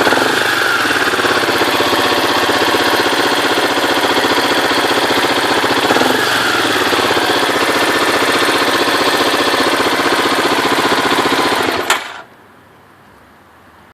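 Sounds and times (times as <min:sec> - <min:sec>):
engine revving: 0:00.0 - 0:12.2
engine idling with rapid knock: 0:00.0 - 0:12.3.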